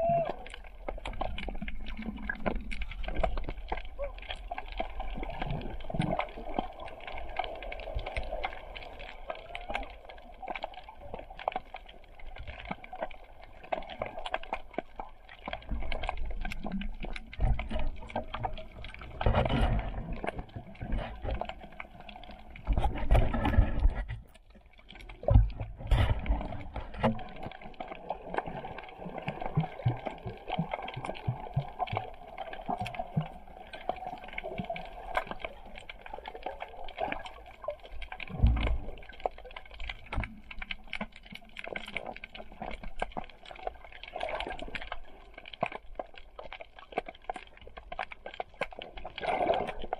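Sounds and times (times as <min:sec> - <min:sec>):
underwater crackle of fine clicks: 0:00.2 - 0:49.9.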